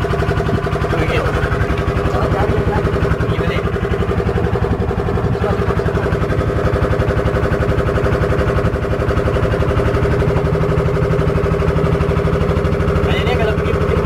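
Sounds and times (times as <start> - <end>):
boat engine puttering: 0.0 - 14.0.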